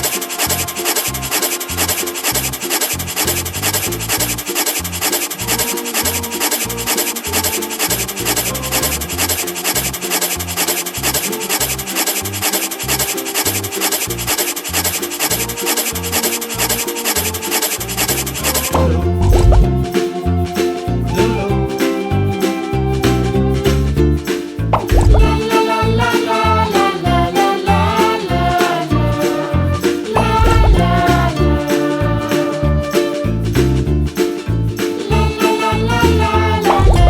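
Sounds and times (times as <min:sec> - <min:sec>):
music with scratchy shaker beat: 0:00.0 - 0:37.0.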